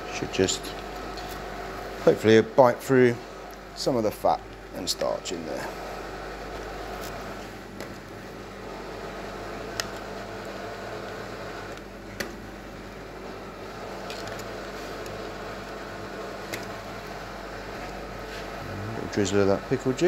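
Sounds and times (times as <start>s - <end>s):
kitchen ventilation hum: 0.0s - 20.0s.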